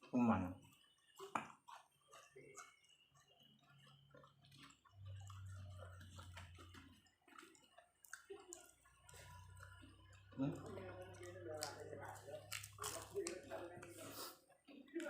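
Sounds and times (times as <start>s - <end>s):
chewing with wet mouth clicks: 0.6s - 15.0s.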